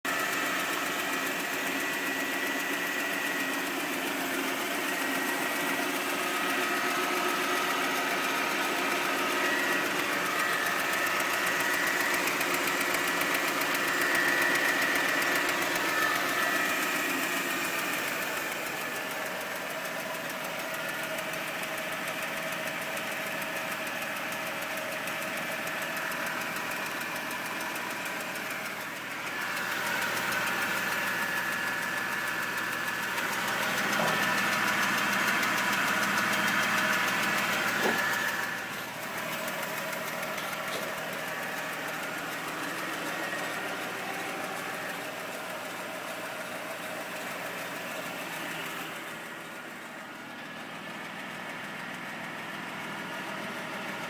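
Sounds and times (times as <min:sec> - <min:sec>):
car engine clattering and ticking: 0:00.0 - 0:54.0.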